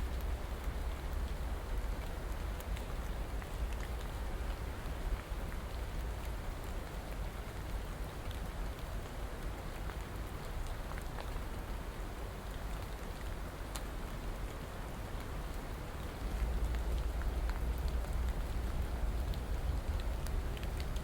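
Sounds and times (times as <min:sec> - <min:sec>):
steady rainfall: 0:00.0 - 0:21.0.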